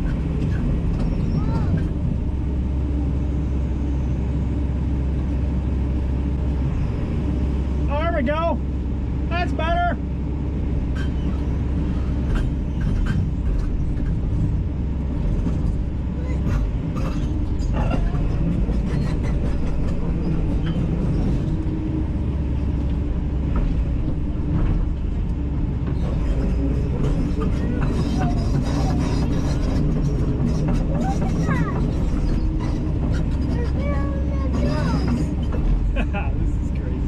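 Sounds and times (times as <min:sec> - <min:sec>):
excavator diesel engine rumbling: 0:00.0 - 0:37.0.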